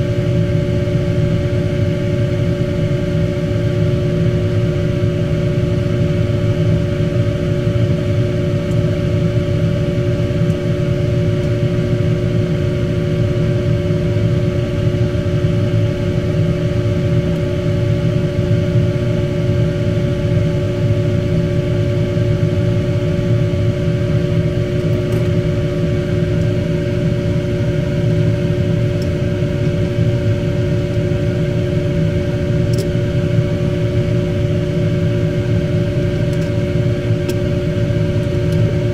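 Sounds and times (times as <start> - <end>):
machine hum and whir: 0.0 - 38.9.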